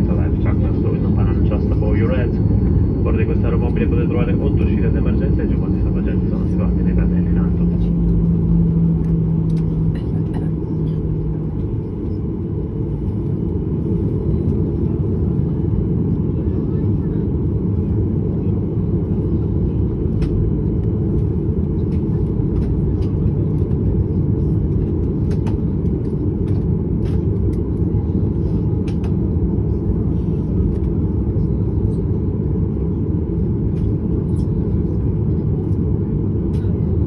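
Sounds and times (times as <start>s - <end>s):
aircraft cabin engine rumble: 0.0s - 37.0s.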